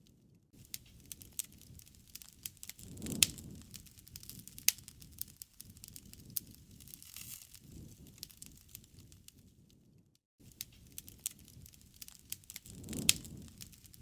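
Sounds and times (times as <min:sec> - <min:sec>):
wood fire crackling: 0:00.0 - 0:14.0
sharp pops of fire: 0:00.1 - 0:14.0.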